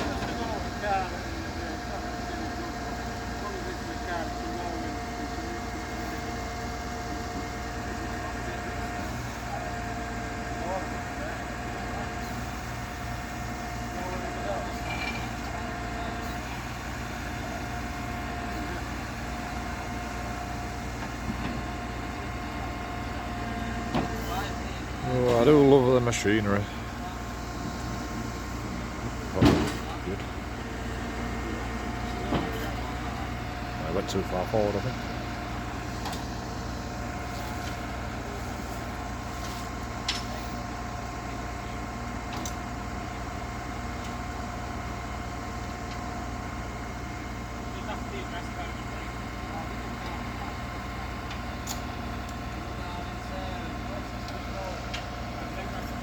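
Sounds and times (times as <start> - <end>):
truck engine humming: 0.0 - 56.0.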